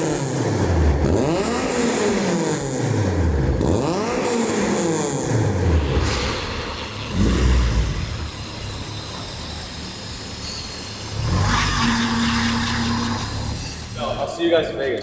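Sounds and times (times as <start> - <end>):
car engine running at low revs: 0.0 - 13.7.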